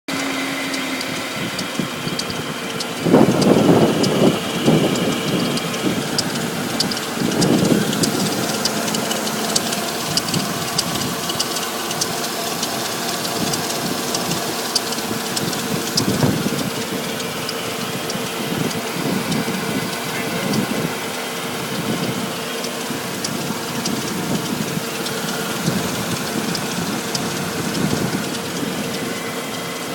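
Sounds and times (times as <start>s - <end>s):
car engine running: 0.0s - 29.9s
sharp engine ticking: 0.1s - 29.9s.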